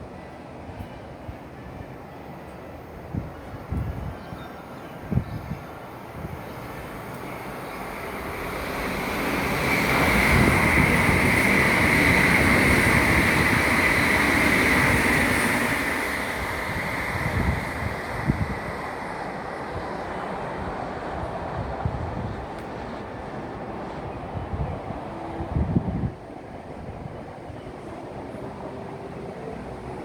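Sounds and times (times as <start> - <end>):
train high whine: 0.0 - 30.0
train passing through station: 0.0 - 30.0.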